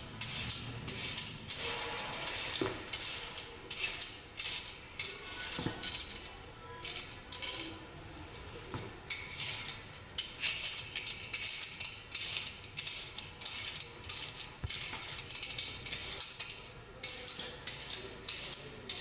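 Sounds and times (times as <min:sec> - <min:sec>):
peeler scraping a carrot: 0:00.2 - 0:07.8, 0:09.1 - 0:19.0.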